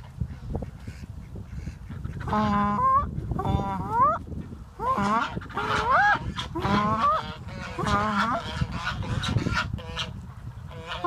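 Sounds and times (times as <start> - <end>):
ducks calling: 0.0 - 4.2, 4.8 - 11.0.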